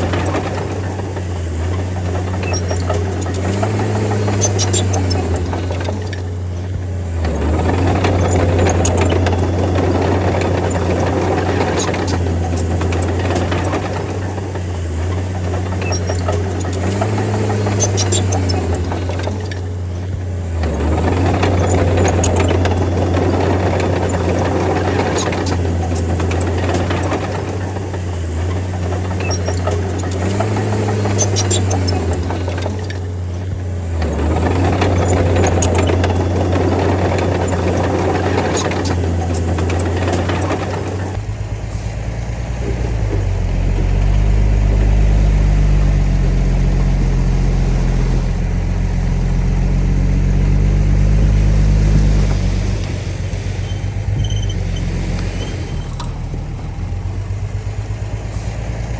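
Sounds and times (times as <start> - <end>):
soil and rocks knocking: 0.0 - 57.0
bulldozer diesel engine: 0.0 - 58.9
tracks grinding and clattering: 0.0 - 58.9.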